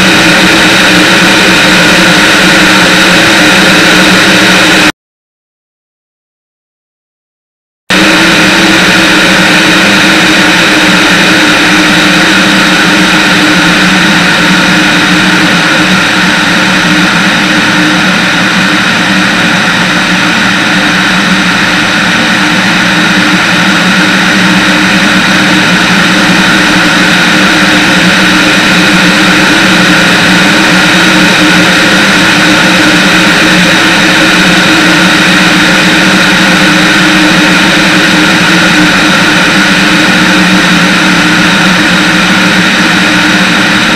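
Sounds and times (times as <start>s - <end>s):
propeller plane engine drone: 0.0s - 4.9s, 7.9s - 43.9s
rushing air: 0.0s - 4.9s, 7.9s - 43.9s.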